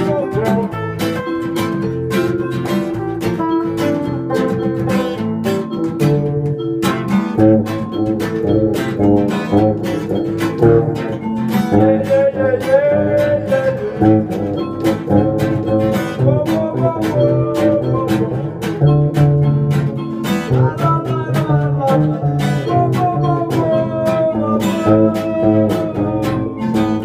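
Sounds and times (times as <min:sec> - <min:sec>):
acoustic guitar picking: 0:00.0 - 0:27.0
wavering melody line: 0:00.0 - 0:27.0.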